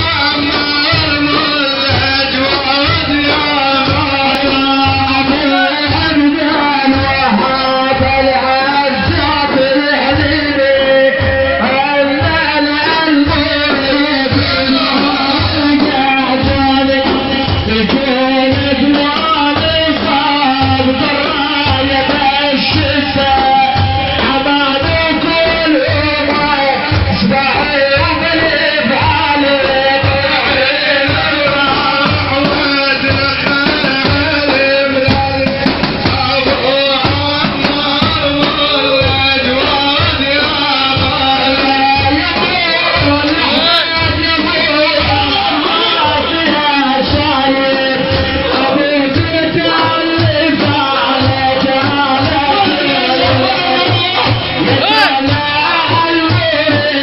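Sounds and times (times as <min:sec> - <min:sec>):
drums steady beat: 0:00.0 - 0:57.0
man chanting ornamented melody: 0:00.0 - 0:57.0.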